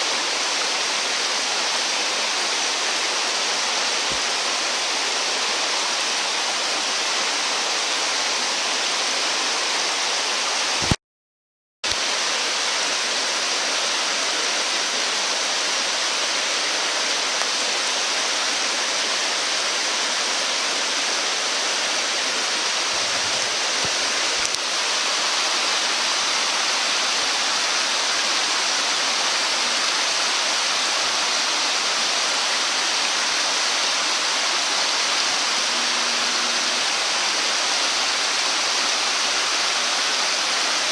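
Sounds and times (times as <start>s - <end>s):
stream water rushing: 0.0s - 11.0s, 11.9s - 40.9s.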